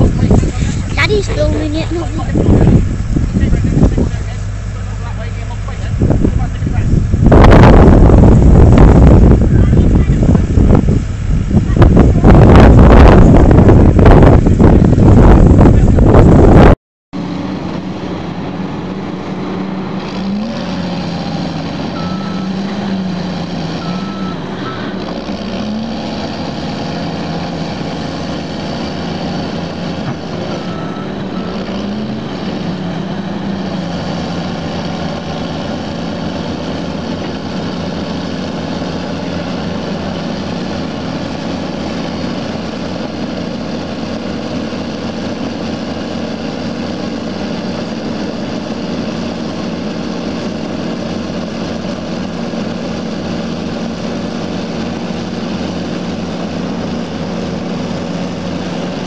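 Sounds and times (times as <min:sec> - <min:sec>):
heavy diesel engines running hard: 0:00.0 - 0:59.0.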